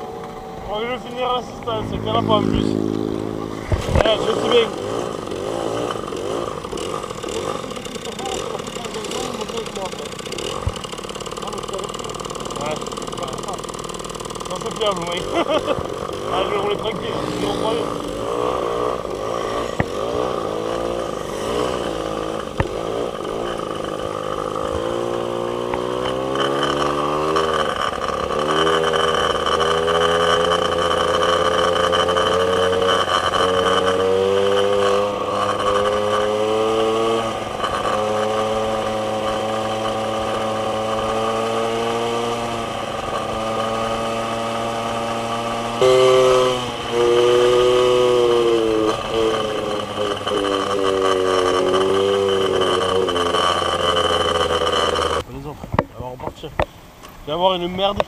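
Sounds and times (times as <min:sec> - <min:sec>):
moped engine running: 0:00.0 - 0:58.0.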